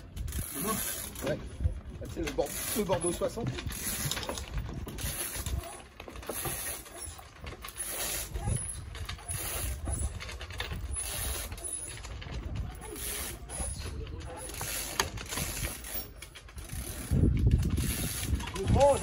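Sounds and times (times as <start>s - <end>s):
wind gusting on microphone: 0.0s - 6.6s, 7.3s - 19.0s.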